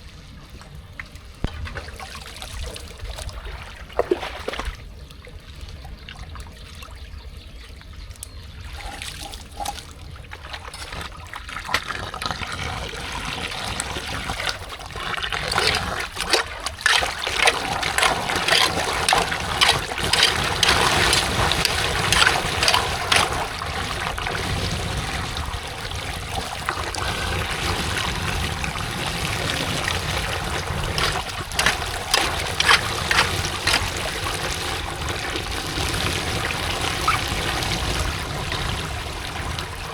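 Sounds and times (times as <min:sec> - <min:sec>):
floodwater trickling and splashing: 0:00.0 - 0:39.9.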